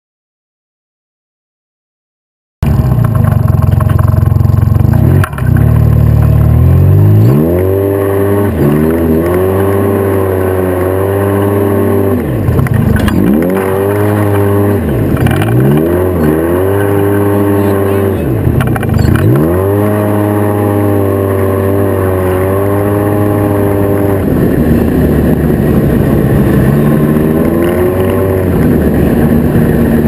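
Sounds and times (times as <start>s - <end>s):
turbocharged engine accelerating: 2.6s - 30.0s.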